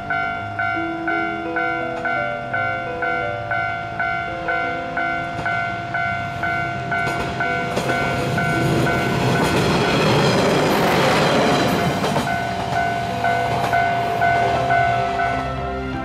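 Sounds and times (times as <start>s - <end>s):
diesel railcar engine and wheels: 0.0s - 16.0s
level-crossing warning bell ringing: 0.0s - 16.0s.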